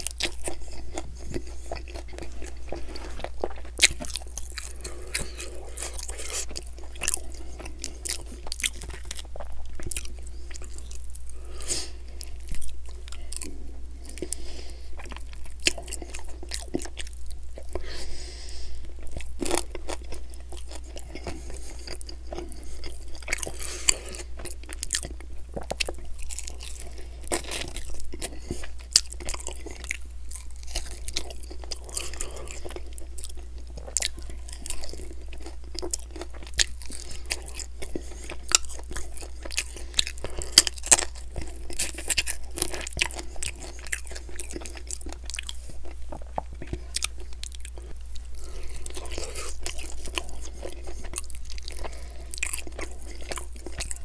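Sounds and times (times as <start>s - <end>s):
chewing and mouth smacking: 0.0s - 11.2s, 12.1s - 18.0s, 18.9s - 54.0s
steady low hum: 0.0s - 54.0s.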